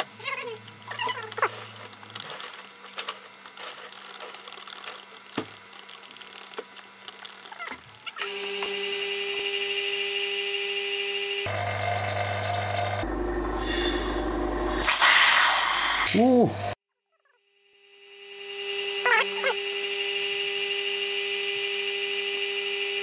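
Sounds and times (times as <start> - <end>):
steady machine hum: 0.0 - 14.8, 17.5 - 23.0.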